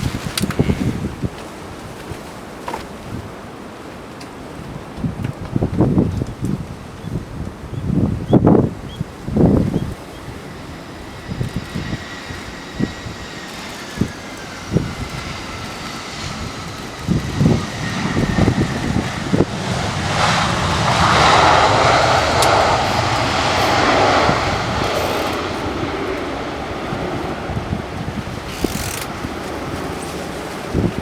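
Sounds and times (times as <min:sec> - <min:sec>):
wind thumps on microphone: 0:00.0 - 0:03.4, 0:04.7 - 0:31.0
jet airliner engines whining: 0:00.0 - 0:31.0.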